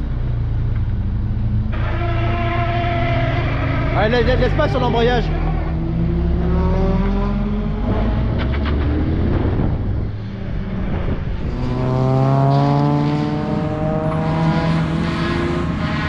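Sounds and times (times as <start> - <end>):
car engine under load: 0.0 - 16.0.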